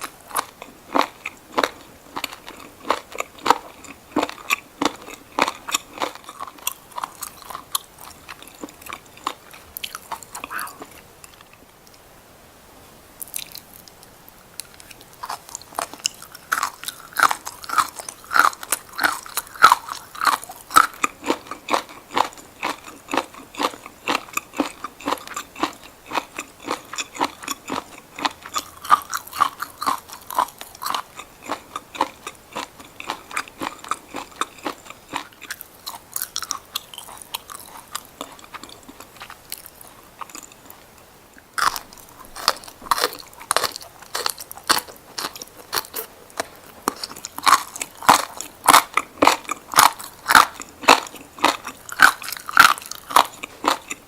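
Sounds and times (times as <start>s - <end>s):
crunchy chewing of seaweed: 0.0s - 11.6s, 13.2s - 41.0s, 41.6s - 54.0s.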